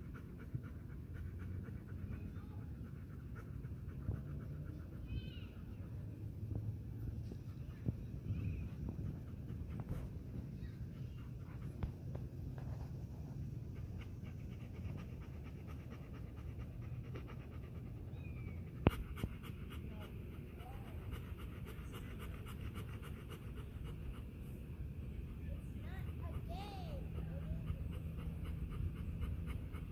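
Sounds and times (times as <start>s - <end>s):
dog panting: 0.0s - 29.9s.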